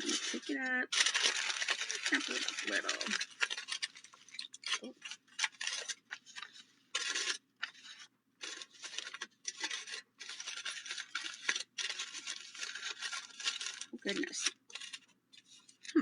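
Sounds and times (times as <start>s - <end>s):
aluminum foil crumpling: 0.0s - 16.0s.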